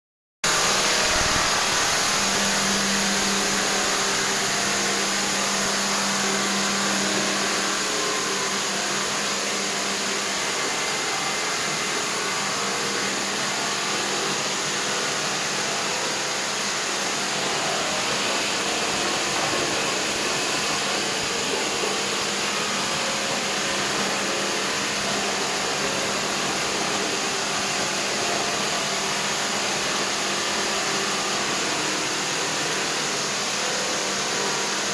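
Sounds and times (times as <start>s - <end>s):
machine noise like rushing air: 0.5s - 34.9s.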